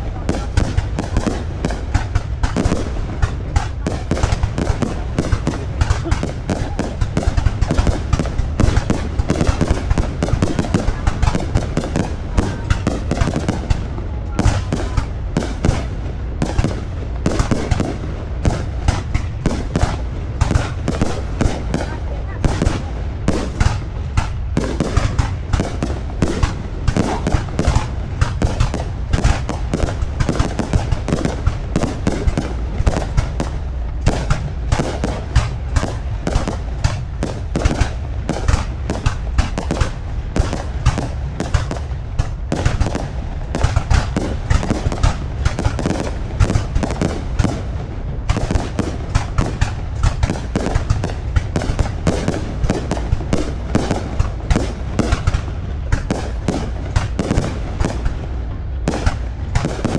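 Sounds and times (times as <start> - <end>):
fireworks bangs and crackles: 0.0 - 59.9
steady low rumble: 0.0 - 59.9.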